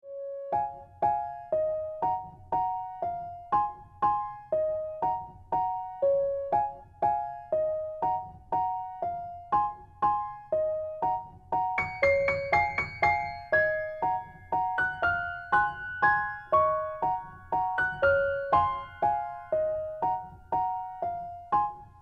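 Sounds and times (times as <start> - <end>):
gentle keyboard melody: 0.0 - 22.0.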